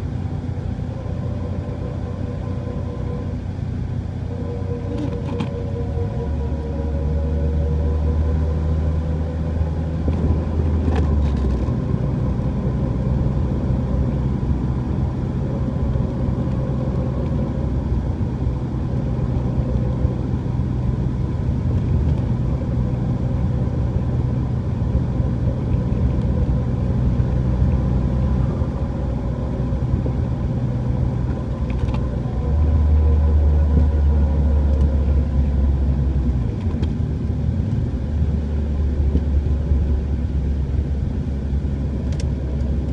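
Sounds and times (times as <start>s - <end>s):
deeper drone: 0.0s - 42.9s
humming whine: 0.0s - 42.9s
road and engine noise: 0.0s - 42.9s.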